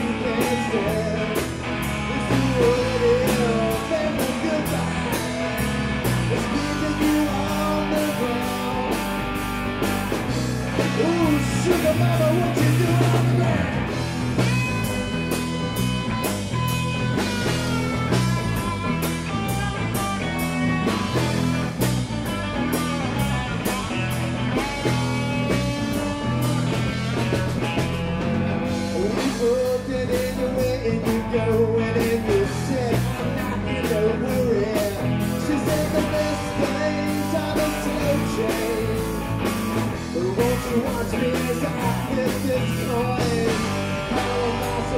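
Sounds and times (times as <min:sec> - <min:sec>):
bass: 0:00.0 - 0:44.9
electric guitar: 0:00.0 - 0:44.9
steady drum beat: 0:00.0 - 0:44.9.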